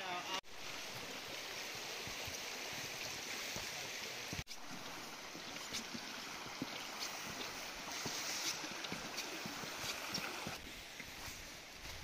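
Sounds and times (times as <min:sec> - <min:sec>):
water flowing over rocks: 0:00.0 - 0:12.0.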